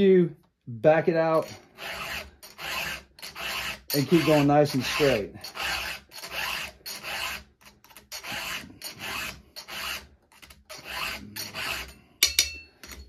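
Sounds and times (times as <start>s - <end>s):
file rasping on chainsaw chain: 1.2s - 13.0s.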